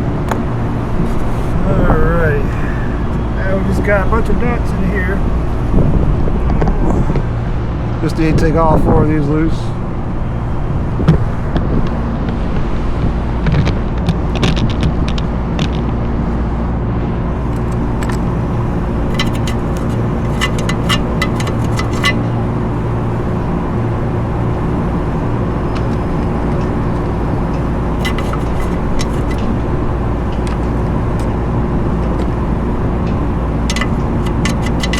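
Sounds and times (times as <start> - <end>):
rooftop machinery hum: 0.0 - 34.9.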